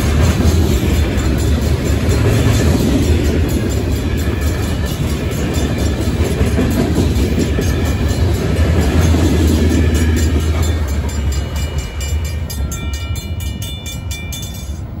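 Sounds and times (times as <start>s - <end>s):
crossing bell ringing: 0.0s - 15.0s
freight cars rumbling over rails: 0.0s - 15.0s.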